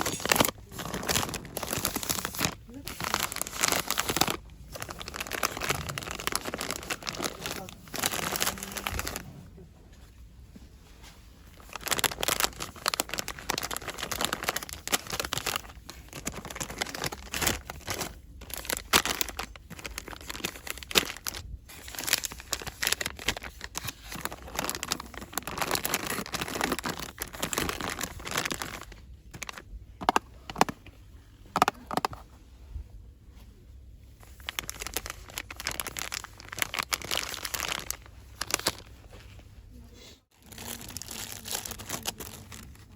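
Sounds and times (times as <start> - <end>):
packaging crinkling: 0.0 - 9.3, 11.5 - 30.7, 34.2 - 39.1, 40.4 - 42.9.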